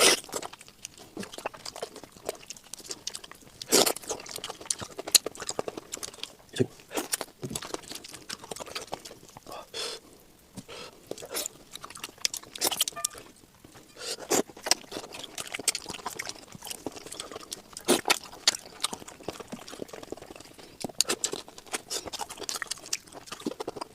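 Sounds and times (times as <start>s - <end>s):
wet chewing: 0.0s - 23.9s.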